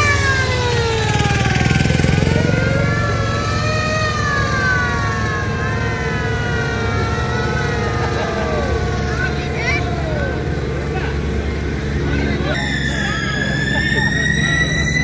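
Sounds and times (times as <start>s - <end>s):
high whining tones: 0.0s - 15.0s
tractor diesel engines rumbling: 0.0s - 15.0s.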